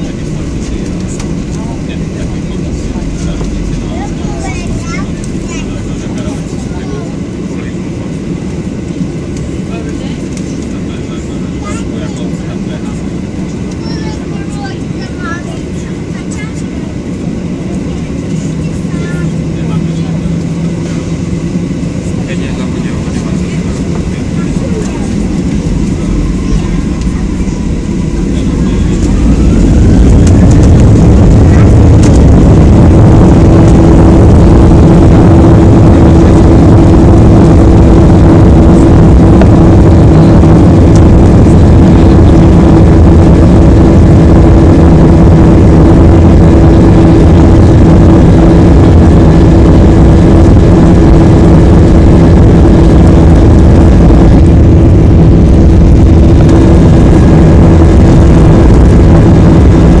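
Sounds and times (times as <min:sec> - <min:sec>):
jet engine and runway rush: 0:00.0 - 1:00.0
steady hum: 0:00.0 - 1:00.0.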